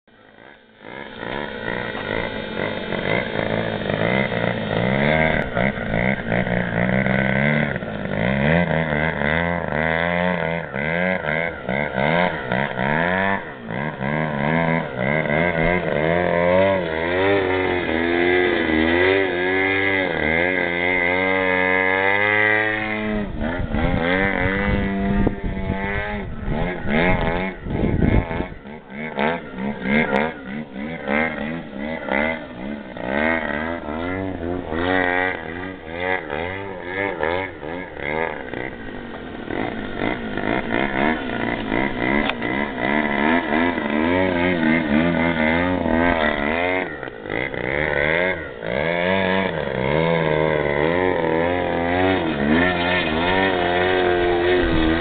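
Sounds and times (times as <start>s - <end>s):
model plane engine: 0.1s - 55.0s.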